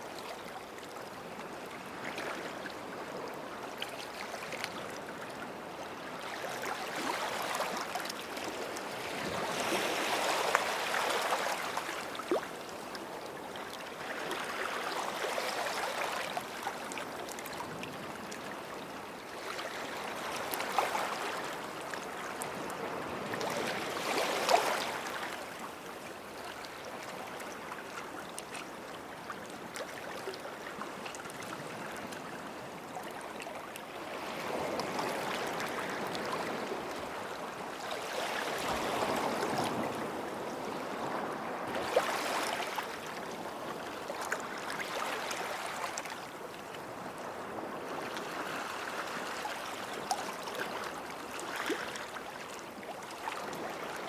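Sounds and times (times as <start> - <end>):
small waves washing onto shore: 1.8 - 54.0.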